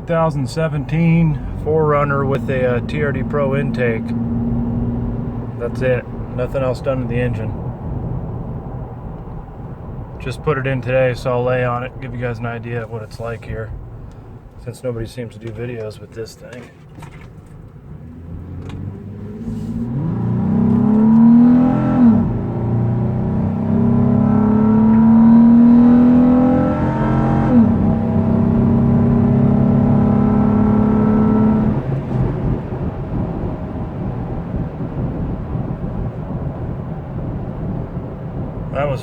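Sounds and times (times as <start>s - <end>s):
road noise: 0.0s - 39.0s
car engine accelerating through gears: 0.6s - 10.2s, 17.0s - 38.7s.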